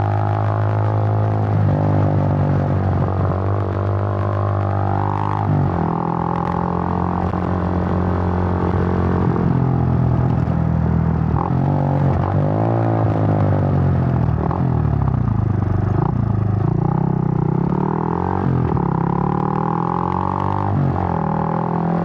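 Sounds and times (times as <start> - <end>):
motorcycle engine droning: 0.0 - 22.0.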